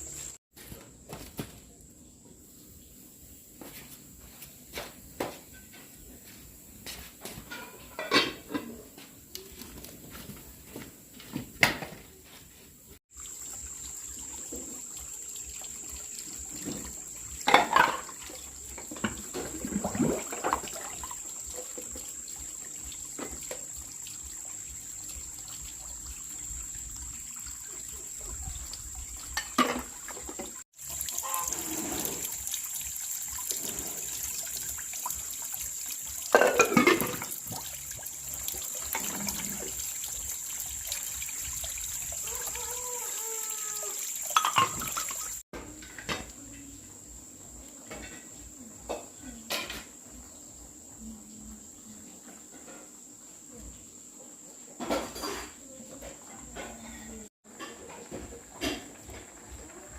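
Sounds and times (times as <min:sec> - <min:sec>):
water splashing and trickling: 0:07.4 - 0:54.1, 0:54.8 - 0:59.9.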